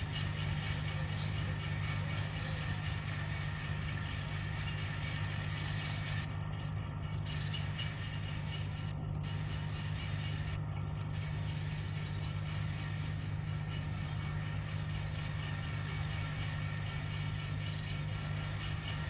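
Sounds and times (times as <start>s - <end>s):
tractor engine under load: 0.0s - 19.0s
light ticks and clicks: 0.1s - 19.0s.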